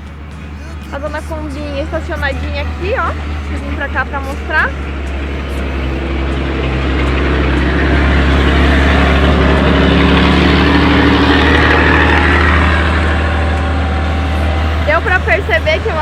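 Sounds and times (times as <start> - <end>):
trucks passing on road: 0.0 - 16.0.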